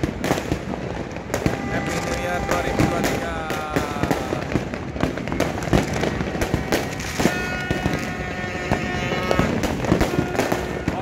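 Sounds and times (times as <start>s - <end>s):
fireworks sharp bangs: 0.0s - 11.0s
rumble and crackle of explosions: 0.0s - 11.0s.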